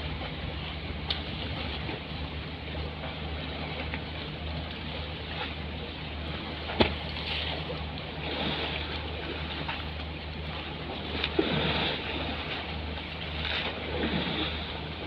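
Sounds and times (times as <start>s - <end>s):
ferry engines droning: 0.0s - 15.0s
rough waves rushing: 0.0s - 15.0s.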